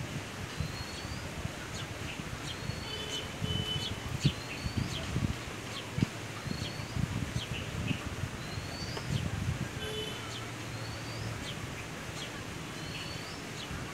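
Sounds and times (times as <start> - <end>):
outdoor background noise: 0.0 - 13.9
birds chirping: 0.5 - 5.1, 5.7 - 13.9.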